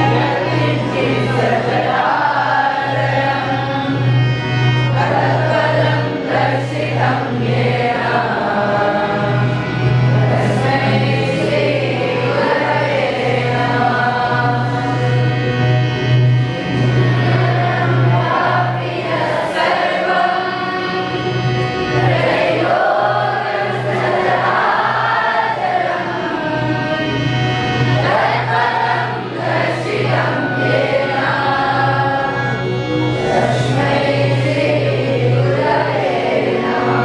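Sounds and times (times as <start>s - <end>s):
boys singing in unison: 0.0s - 3.9s, 4.9s - 15.4s, 16.8s - 21.1s, 22.0s - 27.1s, 27.9s - 32.6s, 33.2s - 37.0s.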